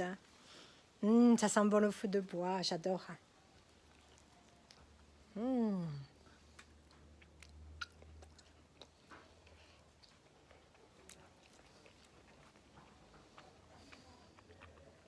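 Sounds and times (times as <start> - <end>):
faint chewing of crunchy food: 2.1 - 15.0.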